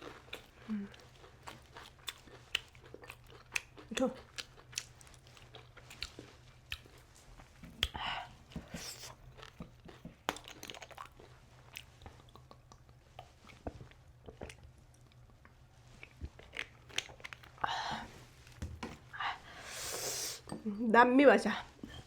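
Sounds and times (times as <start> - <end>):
biting and chewing crispy fritters: 0.0 - 17.8.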